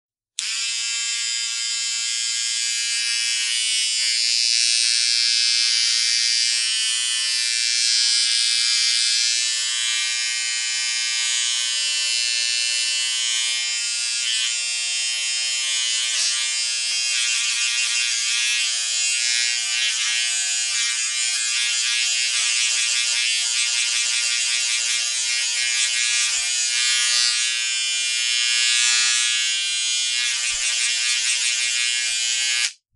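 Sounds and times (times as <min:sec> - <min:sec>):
electric shaver buzzing: 0:00.4 - 0:32.8.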